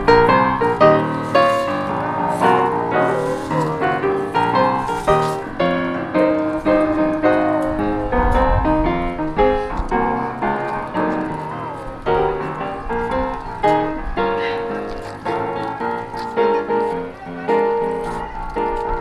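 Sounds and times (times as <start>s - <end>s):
film score music led by piano: 0.0s - 19.0s.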